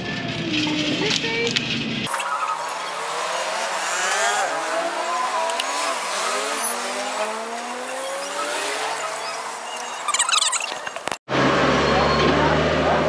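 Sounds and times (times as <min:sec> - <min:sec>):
vehicle engines accelerating: 0:00.0 - 0:13.0.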